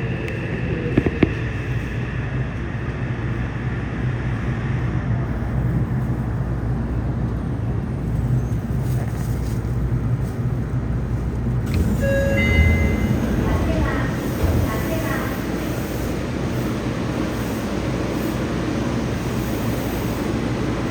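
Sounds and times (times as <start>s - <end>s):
train wheels rumbling: 0.0s - 20.9s.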